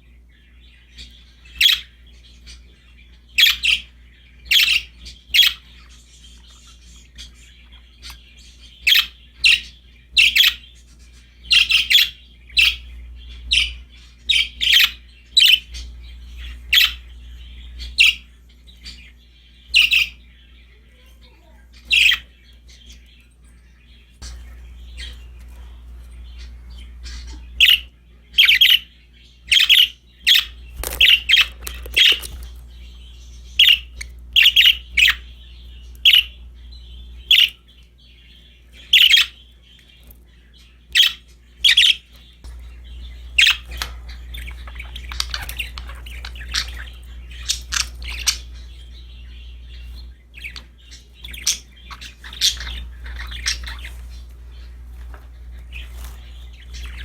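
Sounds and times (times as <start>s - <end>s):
budgerigars chirping and squawking: 0.0s - 57.0s
steady low hum: 0.0s - 57.0s.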